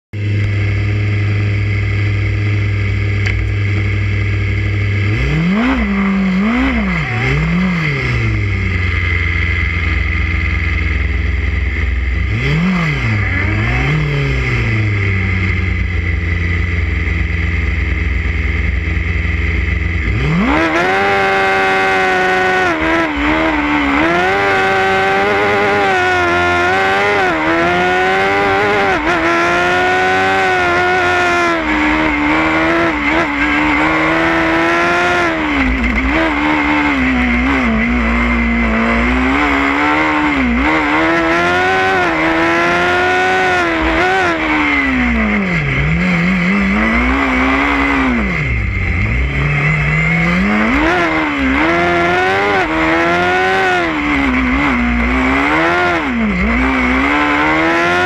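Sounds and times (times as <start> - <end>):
race car engine revving: 0.2 - 58.0.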